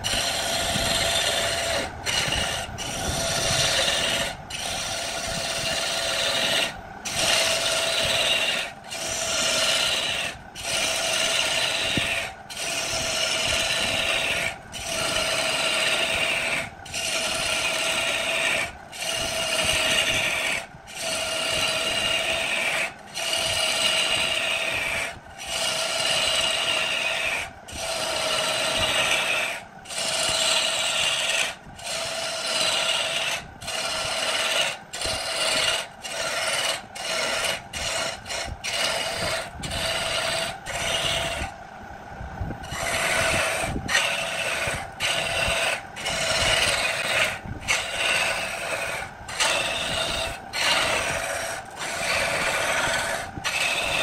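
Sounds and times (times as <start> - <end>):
lathe tool scraping wood: 0.0 - 41.6, 42.6 - 54.0.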